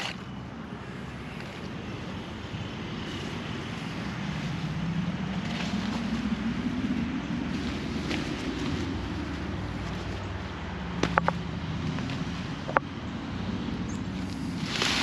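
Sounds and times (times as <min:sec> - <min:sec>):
low engine drone rising in pitch: 0:00.0 - 0:15.0.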